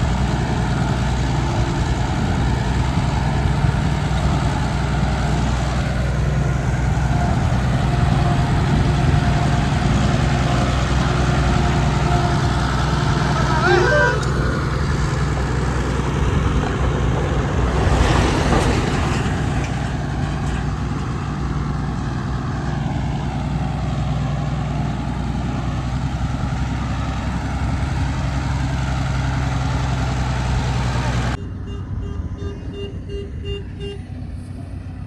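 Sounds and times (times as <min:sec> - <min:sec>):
heavy diesel machinery running: 0:00.0 - 0:35.0.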